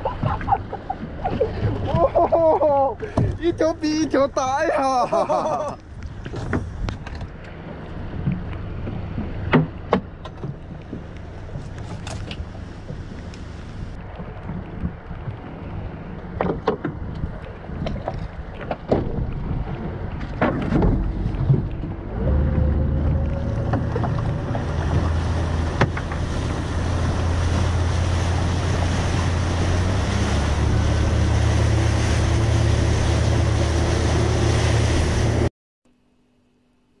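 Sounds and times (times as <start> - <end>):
boat motor humming: 0.0 - 35.5
water noise: 0.0 - 35.5
wind: 0.0 - 37.0.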